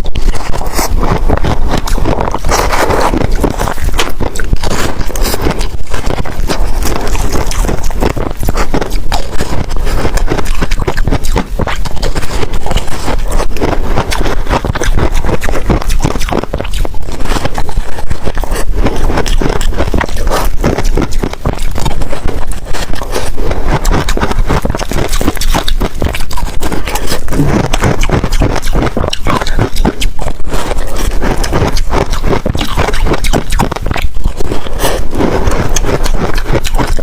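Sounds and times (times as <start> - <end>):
chewing crunchy ice: 0.0 - 37.0.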